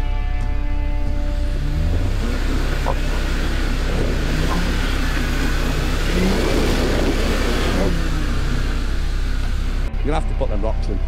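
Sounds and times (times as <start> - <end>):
engine revving hard: 1.0 - 10.0.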